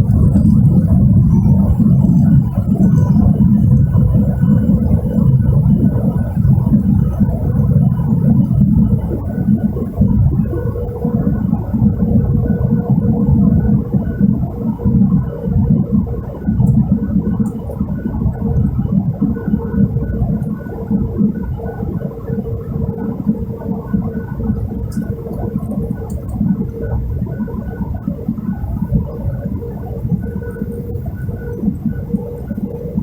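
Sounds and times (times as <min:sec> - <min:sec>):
constant whine: 0:00.0 - 0:33.0
jet engine and airflow rumble: 0:00.0 - 0:33.0.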